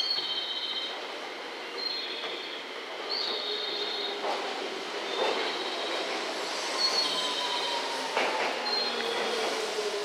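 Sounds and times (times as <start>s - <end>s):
train running noise: 0.2s - 10.0s
train wheels squealing: 1.8s - 10.0s.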